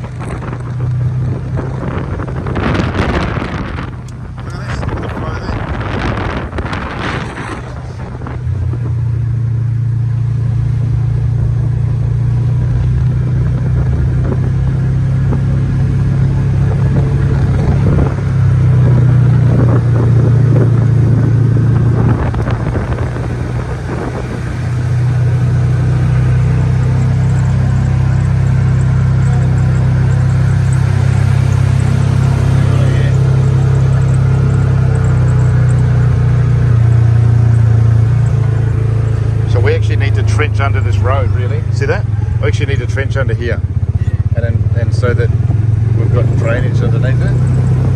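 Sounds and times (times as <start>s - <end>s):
road rumble: 0.0s - 47.9s
vehicle engine running: 0.0s - 47.9s.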